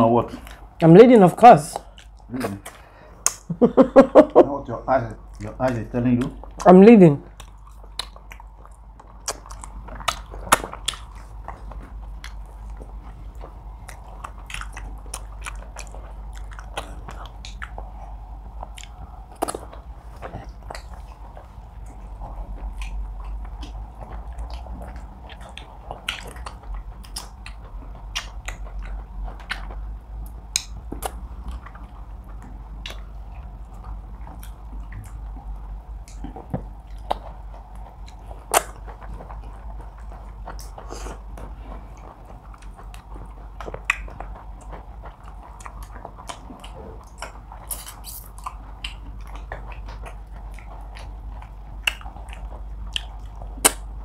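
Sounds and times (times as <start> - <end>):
steady low hum: 0.0 - 54.0
chewing and biting: 0.2 - 54.0
wet clicks and smacks: 0.4 - 3.6, 5.2 - 17.9, 18.6 - 54.0.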